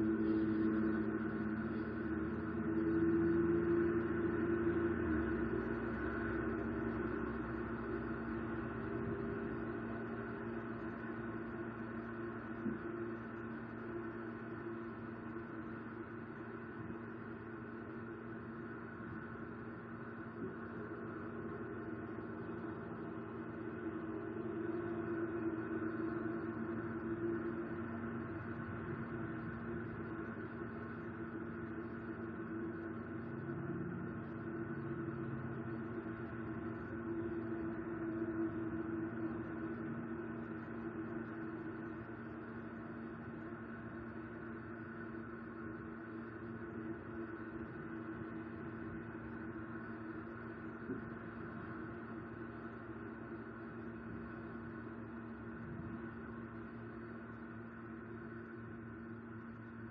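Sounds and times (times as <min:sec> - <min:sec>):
droning hum of held tones: 0:00.0 - 0:59.9.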